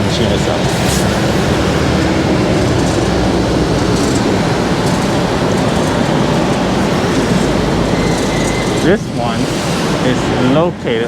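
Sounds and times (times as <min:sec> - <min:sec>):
city traffic noise: 0:00.0 - 0:11.0.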